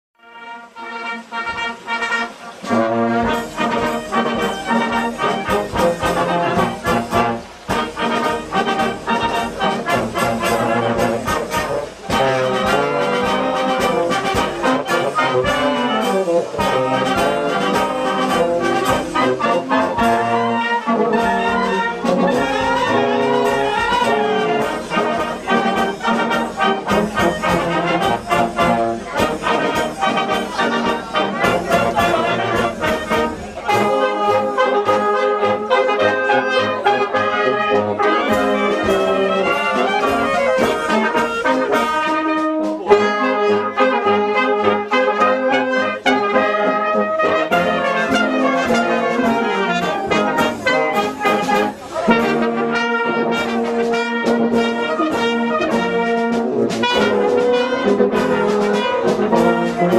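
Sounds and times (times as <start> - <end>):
brass band playing: 0.2 - 59.9.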